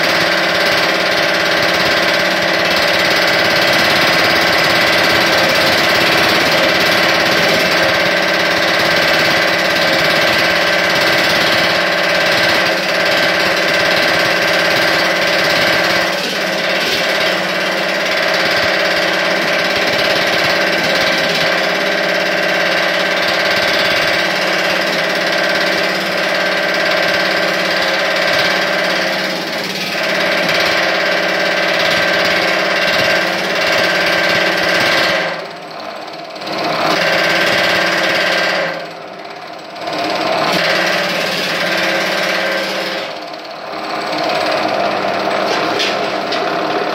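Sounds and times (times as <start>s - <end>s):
power hammer on sheet metal: 0.0s - 46.9s.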